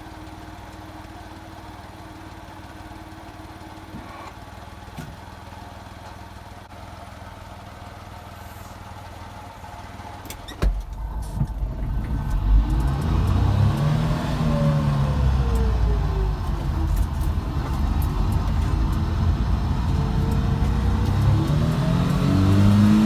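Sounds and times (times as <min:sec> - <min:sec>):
truck engine idling and revving: 0:00.0 - 0:23.0.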